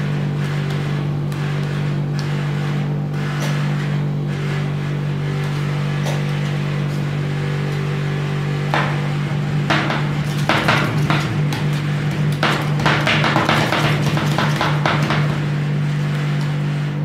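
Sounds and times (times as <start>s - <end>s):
refrigeration unit hum: 0.0s - 17.0s.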